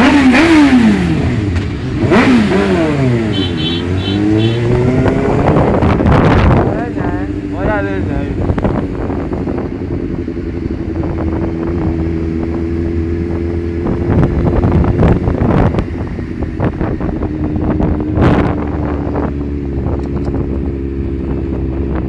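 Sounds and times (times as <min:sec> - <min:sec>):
motorcycle engine running: 0:00.0 - 0:22.0
wind buffeting microphone: 0:04.2 - 0:22.0.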